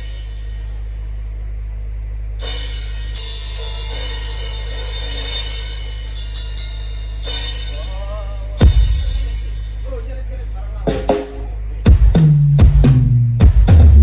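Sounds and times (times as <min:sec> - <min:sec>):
cymbals and hi-hat: 0:00.0 - 0:01.3, 0:02.4 - 0:14.0
steady low hum: 0:00.0 - 0:14.0.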